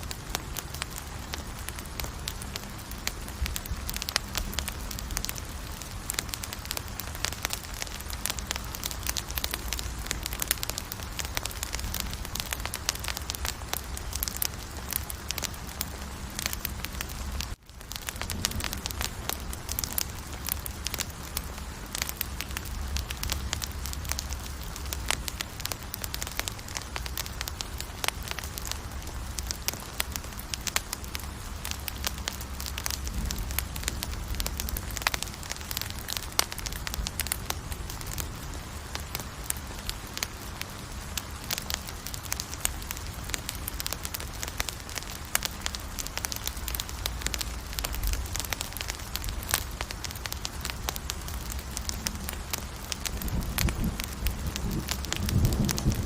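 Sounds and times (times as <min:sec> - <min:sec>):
low rumble of flames: 0:00.0 - 0:56.0
wood crackling and popping: 0:00.0 - 0:56.0.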